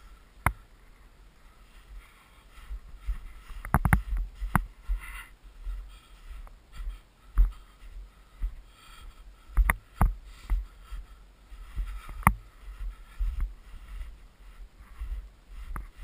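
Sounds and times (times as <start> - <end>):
footsteps in snow: 0.0 - 16.0.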